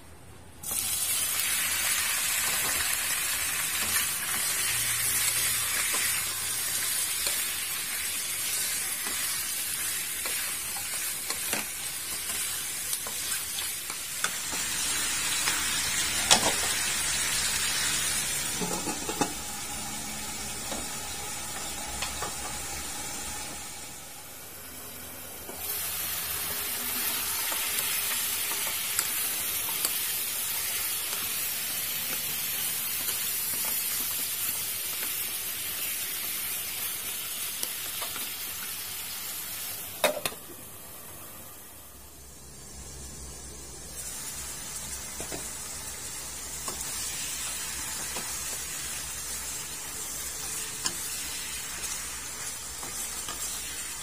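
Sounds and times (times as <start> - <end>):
meat sizzling in hot oil: 0.6 - 40.3, 42.2 - 54.0.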